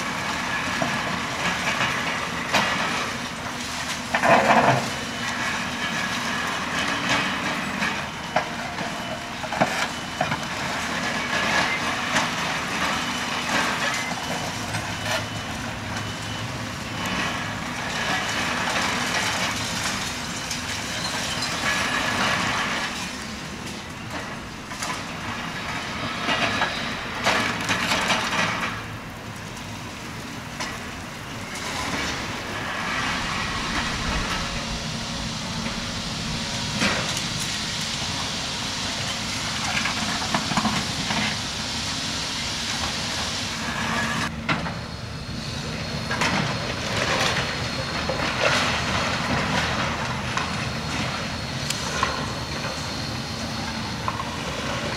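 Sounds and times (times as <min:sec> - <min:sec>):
demolition machinery running: 0:00.0 - 0:54.9.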